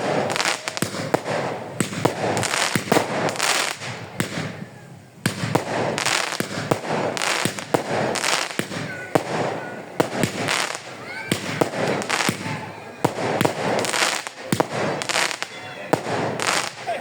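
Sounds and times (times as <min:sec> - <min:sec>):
fireworks crackling and popping: 0:00.0 - 0:17.0
fireworks hissing: 0:00.0 - 0:17.0.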